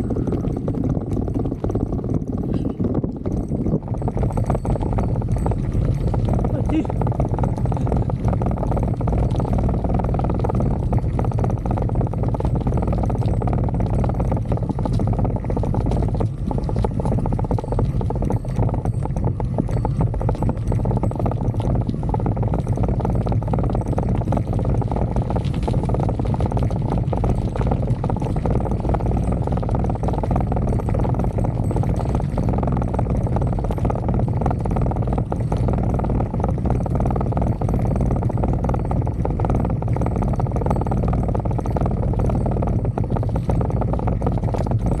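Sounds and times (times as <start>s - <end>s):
bicycle rattling and knocking: 0.0s - 45.0s
wind buffeting microphone: 0.0s - 45.0s.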